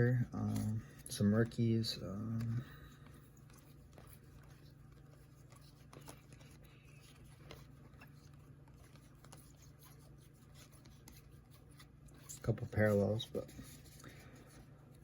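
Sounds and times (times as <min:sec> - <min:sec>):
trading cards being handled: 0:00.2 - 0:15.0.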